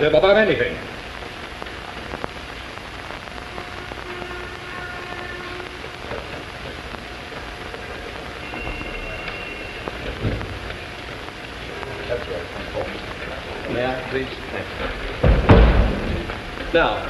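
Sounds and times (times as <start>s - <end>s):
rain on windows: 0.0s - 17.0s.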